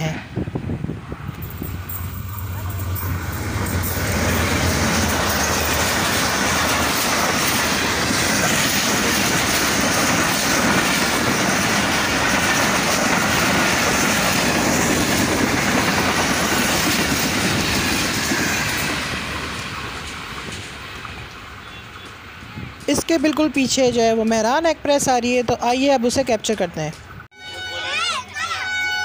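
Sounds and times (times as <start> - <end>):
locomotive engine hum: 0.0 - 24.8
train wheels clattering: 1.3 - 24.6.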